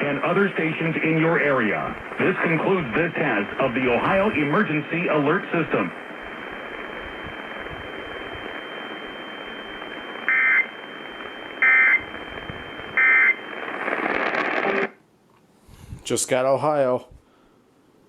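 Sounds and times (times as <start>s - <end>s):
faint high whine: 0.0s - 15.0s
radio static hiss: 0.0s - 15.0s.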